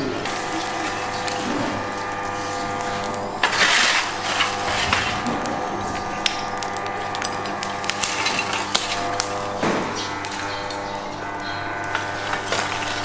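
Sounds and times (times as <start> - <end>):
charcoal crackling: 0.0 - 13.0
steady hum: 0.0 - 13.0.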